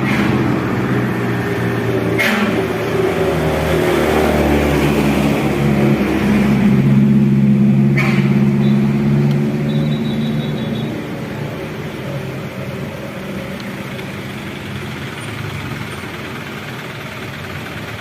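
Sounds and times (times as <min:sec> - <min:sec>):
bus engine running: 0:00.0 - 0:18.0.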